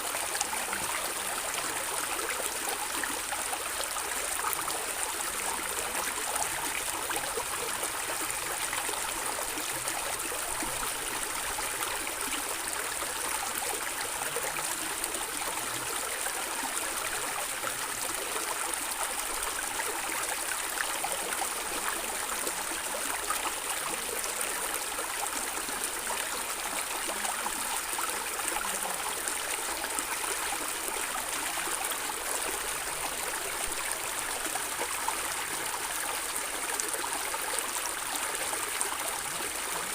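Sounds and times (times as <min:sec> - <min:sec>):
stream water flowing and gurgling: 0:00.0 - 0:39.9.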